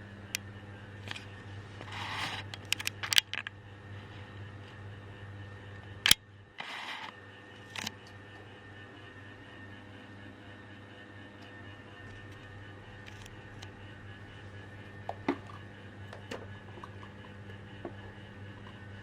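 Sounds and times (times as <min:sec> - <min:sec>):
fan motor humming: 0:00.0 - 0:19.0.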